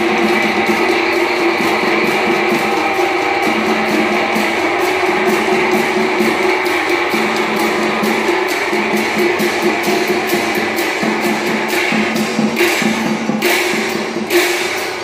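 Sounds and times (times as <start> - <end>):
cymbal clashes: 0.0 - 15.0
gongs ringing: 0.0 - 15.0.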